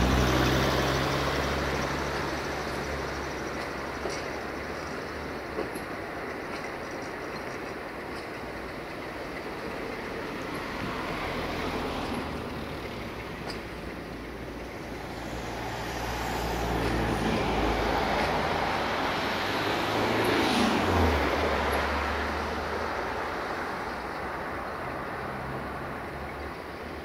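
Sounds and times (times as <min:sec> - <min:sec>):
locomotive engine drone: 0:00.0 - 0:27.0
train wheels rumbling: 0:00.0 - 0:27.0.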